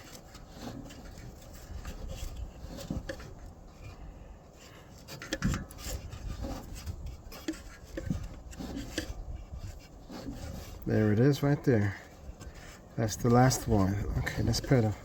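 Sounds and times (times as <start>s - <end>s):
rubbing and scraping handling noise: 0.0s - 15.0s.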